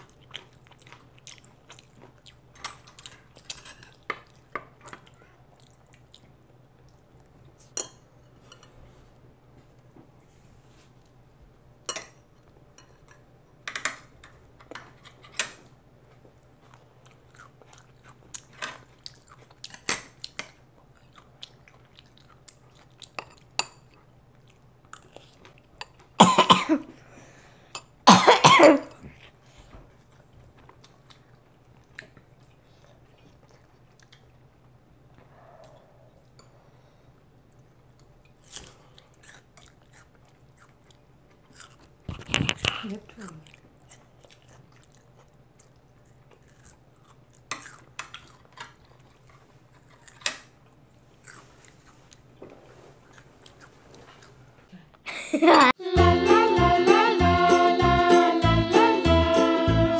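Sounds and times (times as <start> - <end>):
child chewing food: 0.0 - 26.2, 28.8 - 55.8
faint low hum: 0.0 - 56.5.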